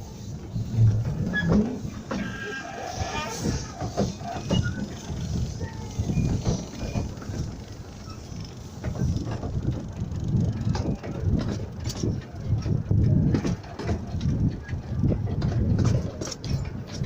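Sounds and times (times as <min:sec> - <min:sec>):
miniature steam train rumbling: 0:00.0 - 0:17.0
knocks and clatter: 0:00.7 - 0:07.8, 0:08.7 - 0:17.0.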